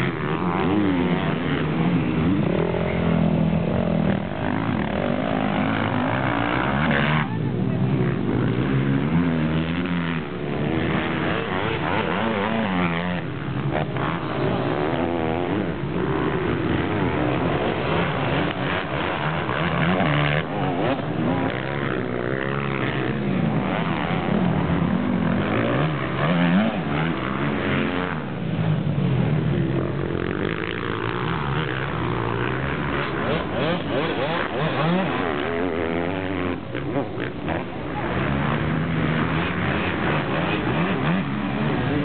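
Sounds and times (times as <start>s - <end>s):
motocross motorcycles revving: 0.0s - 42.0s.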